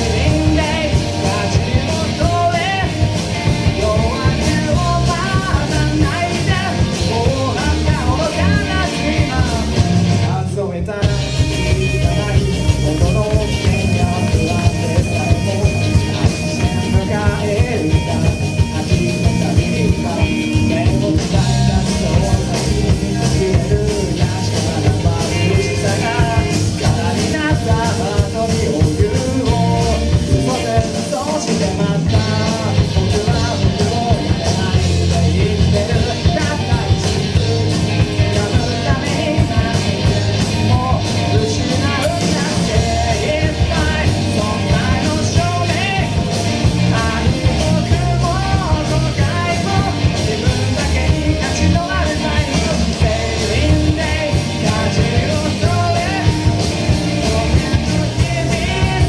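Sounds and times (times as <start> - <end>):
bass guitar: 0.0 - 59.0
drums: 0.0 - 59.0
person singing: 0.0 - 59.0.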